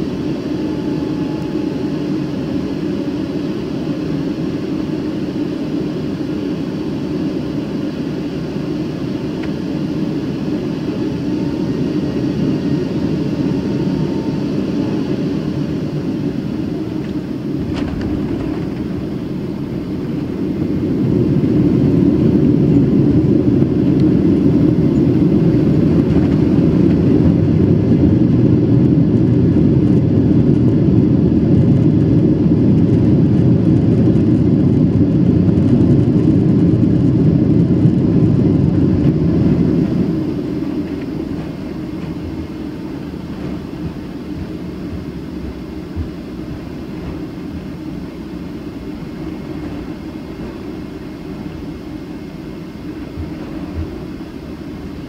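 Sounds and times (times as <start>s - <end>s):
airliner engine and airflow rumble: 0.0s - 55.0s.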